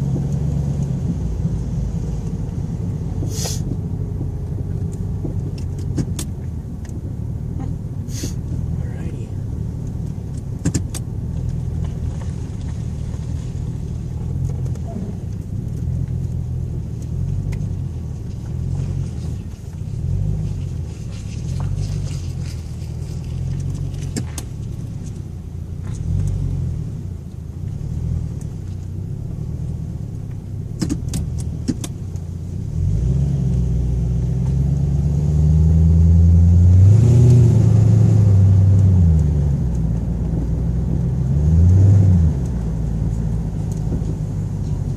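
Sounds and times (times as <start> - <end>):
car engine running and accelerating: 0.0 - 44.9.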